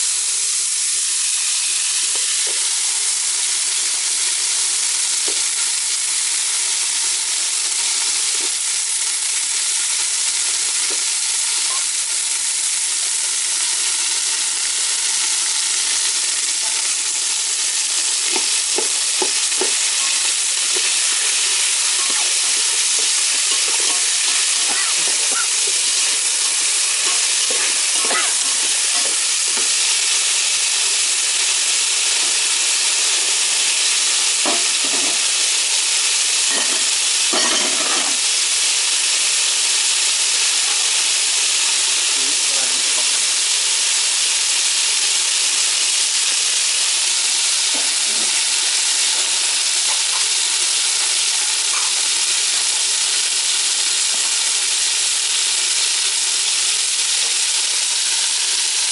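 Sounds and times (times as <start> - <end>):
vegetables sizzling in oil: 0.0 - 58.9.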